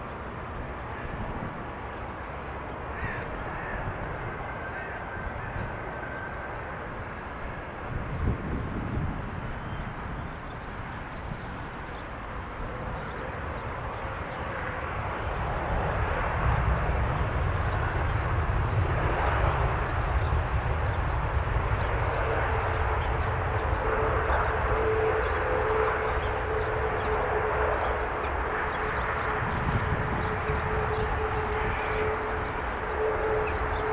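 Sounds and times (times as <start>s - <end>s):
jet engines rumbling: 0.0s - 33.9s
steady jet whine: 0.0s - 33.9s.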